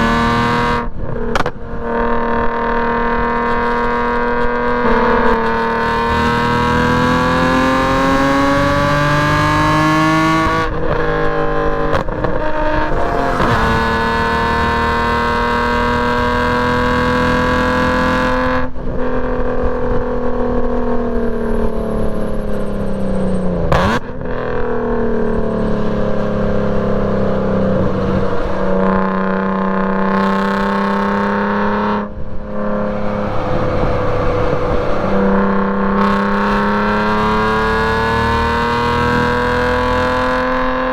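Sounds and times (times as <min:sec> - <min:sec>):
race car engine accelerating: 0:00.0 - 0:40.9.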